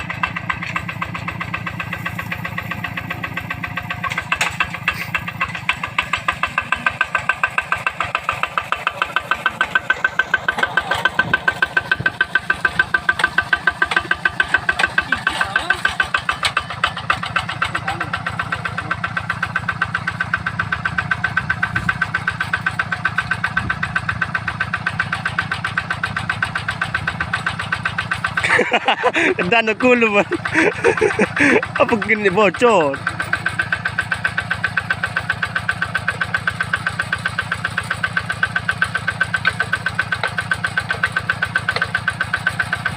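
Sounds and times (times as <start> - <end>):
diesel engine chugging: 0.0 - 42.9.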